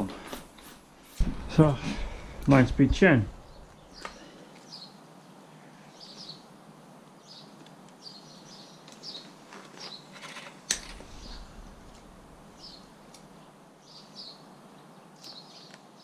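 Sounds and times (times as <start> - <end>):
background hiss: 0.0 - 16.0
small birds chirping: 2.0 - 10.2, 10.8 - 16.0.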